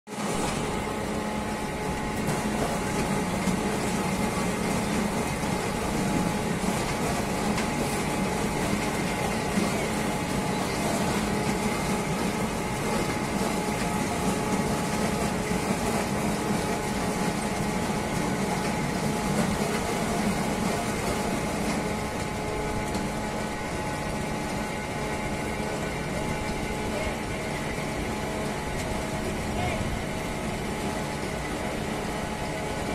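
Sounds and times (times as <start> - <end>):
apple press machinery humming: 0.1 - 32.9.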